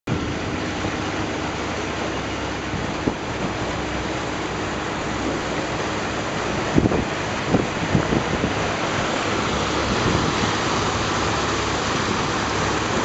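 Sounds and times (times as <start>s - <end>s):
boat engine humming: 0.1s - 13.0s
even rushing noise: 0.1s - 13.0s.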